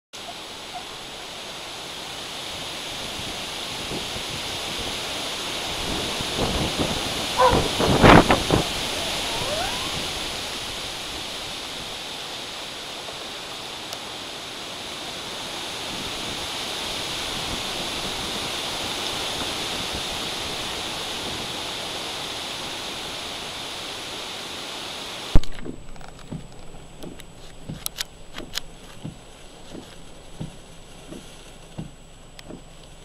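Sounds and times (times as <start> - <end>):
storm wind rushing through trees: 0.2 - 33.0.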